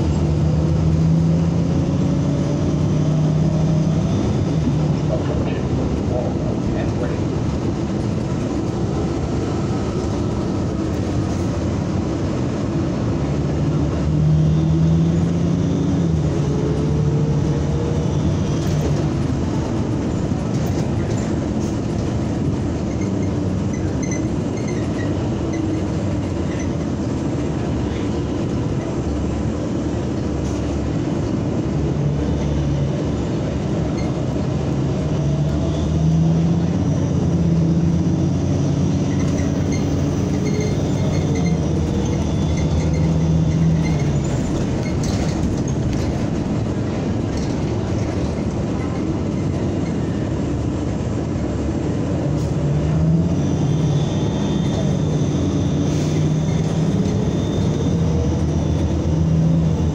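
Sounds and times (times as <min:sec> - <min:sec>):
bus engine and road rumble: 0:00.0 - 0:59.9
engine whine: 0:00.0 - 0:59.9.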